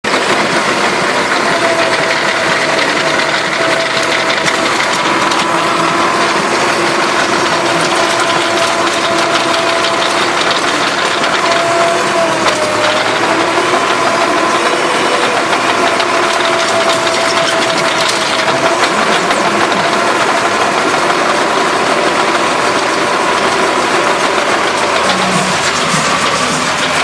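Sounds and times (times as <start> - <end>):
tractor diesel engine running: 0.0 - 27.0
faint machinery whine: 0.1 - 27.0.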